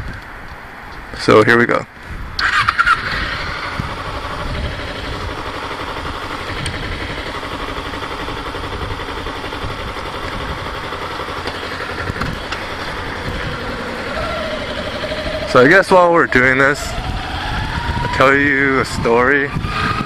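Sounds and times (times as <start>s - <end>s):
motorcycle engine running at low revs: 2.3s - 20.0s.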